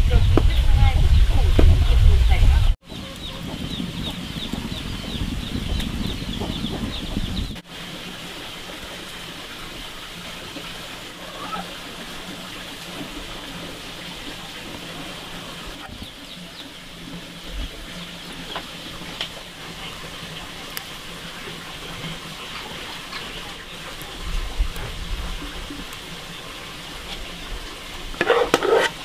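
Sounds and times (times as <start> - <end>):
birds chirping: 0.0 - 29.0
chickens clucking: 0.1 - 7.7, 10.5 - 27.5, 28.1 - 29.0.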